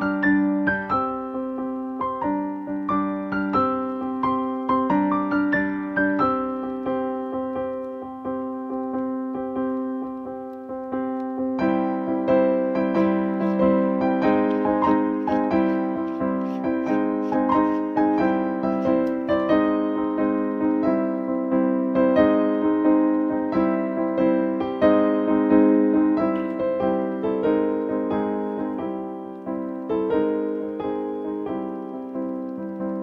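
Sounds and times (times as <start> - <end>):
slow solo piano melody: 0.0 - 33.0.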